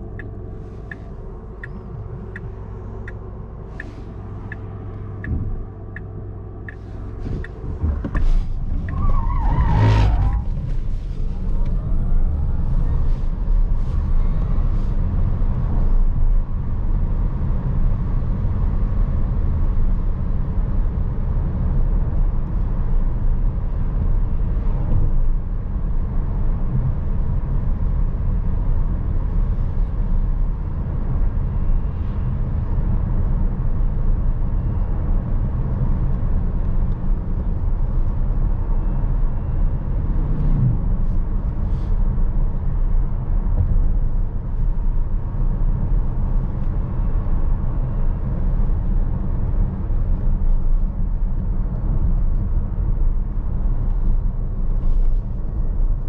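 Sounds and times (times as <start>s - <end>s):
tyre and road noise: 0.0s - 56.0s.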